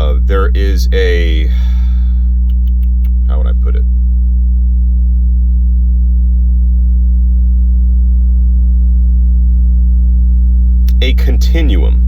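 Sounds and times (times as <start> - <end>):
loud steady low hum: 0.0 - 12.0.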